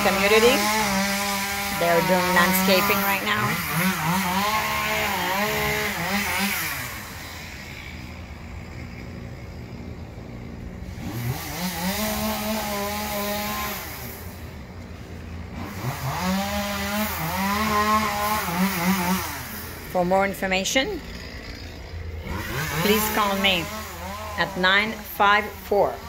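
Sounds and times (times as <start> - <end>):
small gas engine revving: 0.0 - 26.0.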